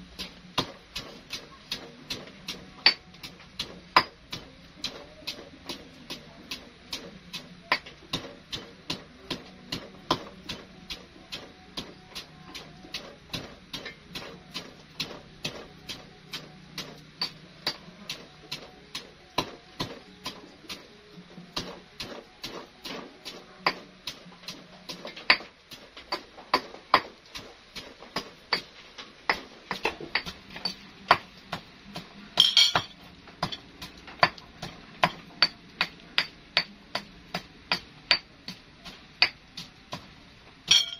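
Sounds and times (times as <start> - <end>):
pestle pounding in wooden mortar: 0.0 - 40.9.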